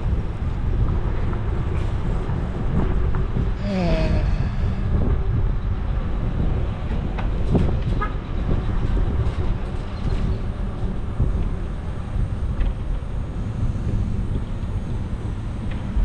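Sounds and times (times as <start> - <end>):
traffic: 0.0 - 16.0
wind on microphone: 0.0 - 16.0.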